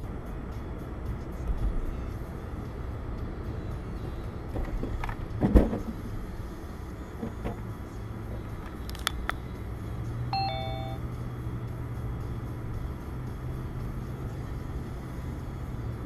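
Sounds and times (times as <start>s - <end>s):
car tyre and engine noise: 0.0s - 16.0s.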